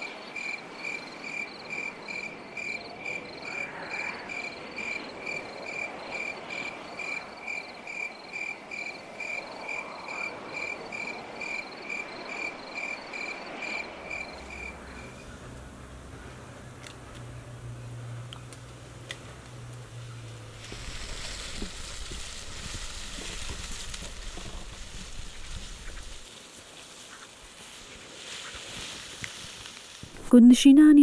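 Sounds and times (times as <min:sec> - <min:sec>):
cricket chirping: 0:00.0 - 0:28.6
night ambience hiss: 0:00.0 - 0:31.0.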